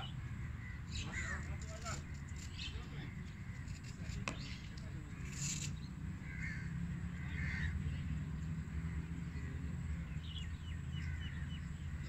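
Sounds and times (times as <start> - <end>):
bird harsh calls: 0.0 - 12.0.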